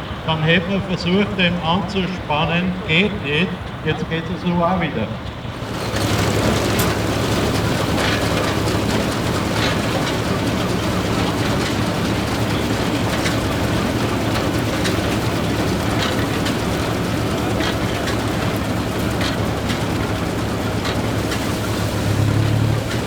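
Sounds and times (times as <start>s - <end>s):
combine harvester threshing: 0.0s - 23.0s
diesel engine drone: 0.0s - 23.0s.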